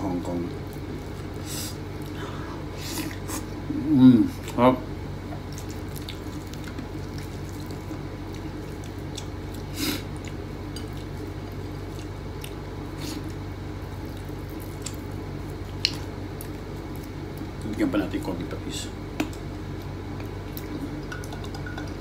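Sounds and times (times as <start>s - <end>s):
steady low hum: 0.0s - 22.0s
person eating with hands: 0.5s - 4.6s, 5.2s - 17.7s, 19.1s - 22.0s.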